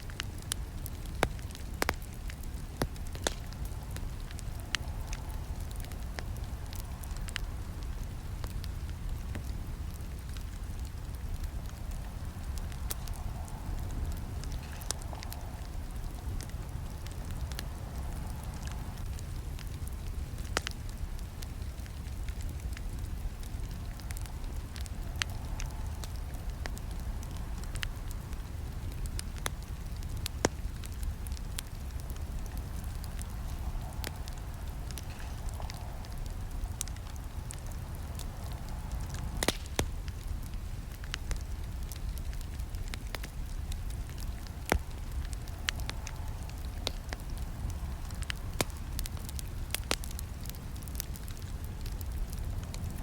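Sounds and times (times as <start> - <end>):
campfire crackling: 0.0 - 53.0
fire pops and snaps: 0.0 - 53.0
low rumble of burning: 0.0 - 53.0.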